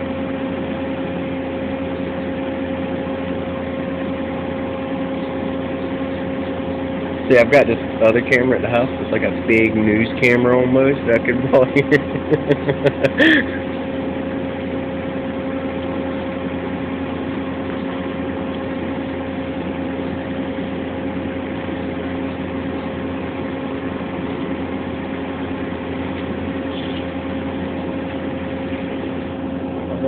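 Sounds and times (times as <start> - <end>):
machine shop equipment hum: 0.0 - 30.0.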